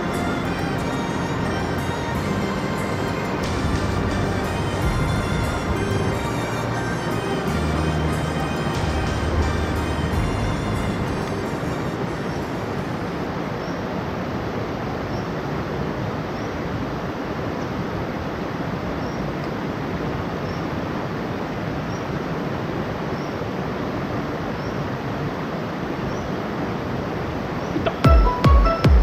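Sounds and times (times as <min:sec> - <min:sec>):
stream water rushing over rocks: 0:00.0 - 0:28.1.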